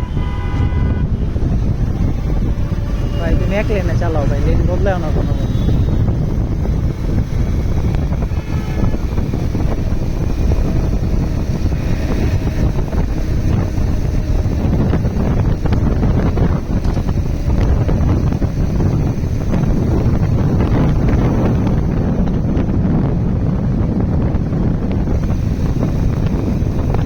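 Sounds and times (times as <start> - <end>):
motorcycle engine and road rumble: 0.0 - 27.0
wind buffeting microphone: 0.0 - 27.0.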